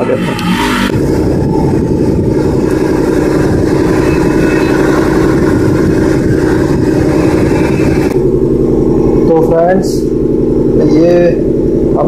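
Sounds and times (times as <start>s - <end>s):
mechanical running noise: 0.0s - 12.0s.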